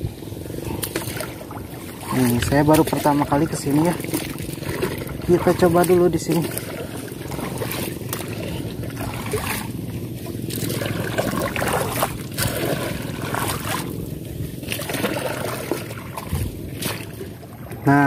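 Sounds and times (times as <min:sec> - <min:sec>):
water trickling and sloshing: 0:00.0 - 0:18.0.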